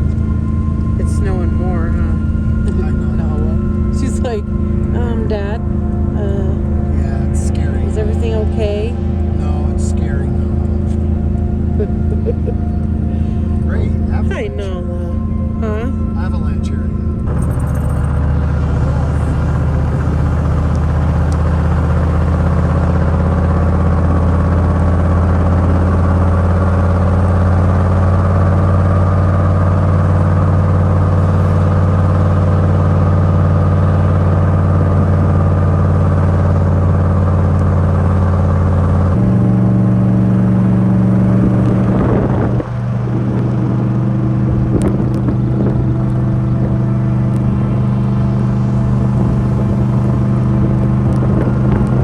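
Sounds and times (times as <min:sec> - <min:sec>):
pickup truck engine under load: 0:00.0 - 0:52.0.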